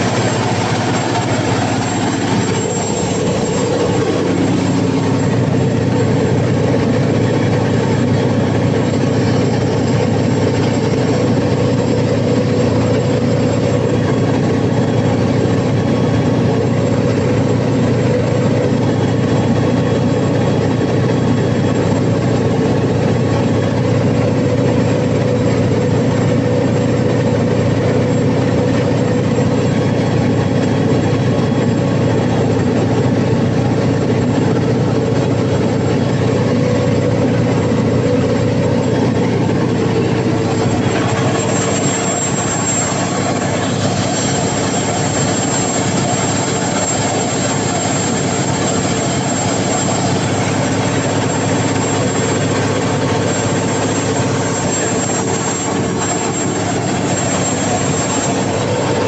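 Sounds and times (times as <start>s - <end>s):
diesel generator drone: 0.0s - 59.0s.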